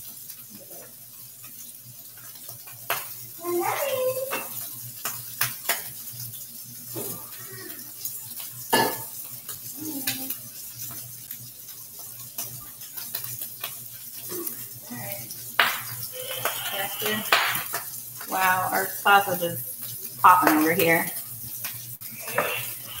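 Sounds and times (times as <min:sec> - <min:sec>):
sausage sizzling in a skillet: 0:00.0 - 0:23.0.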